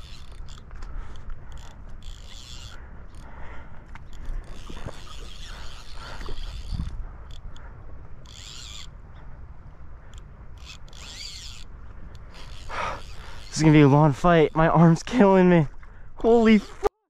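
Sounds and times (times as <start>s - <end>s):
fishing reel drag ratcheting: 0.0s - 9.1s, 10.0s - 15.5s
steady low rumble: 0.0s - 16.5s.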